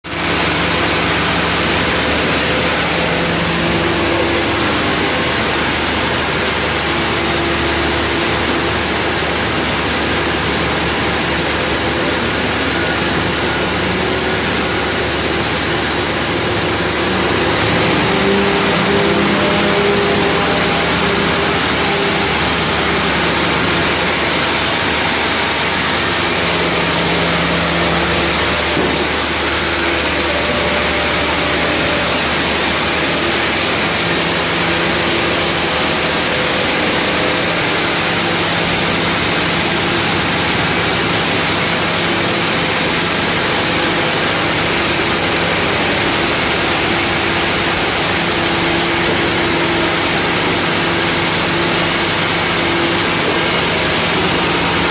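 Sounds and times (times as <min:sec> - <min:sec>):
sawmill engine drone: 0:00.0 - 0:54.9.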